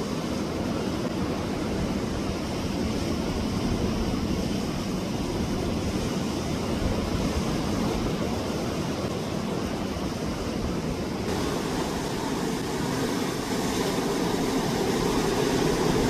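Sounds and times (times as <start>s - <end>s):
sea waves washing against rocks: 0.0s - 16.0s.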